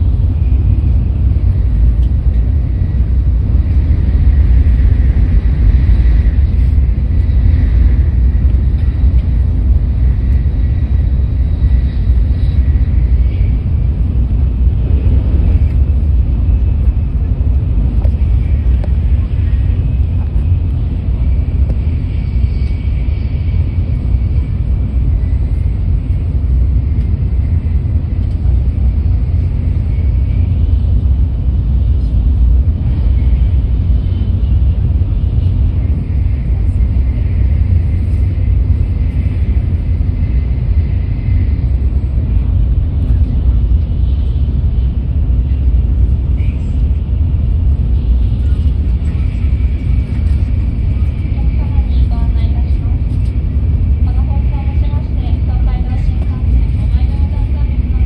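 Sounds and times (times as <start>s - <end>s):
train cabin rumble: 0.0s - 58.0s.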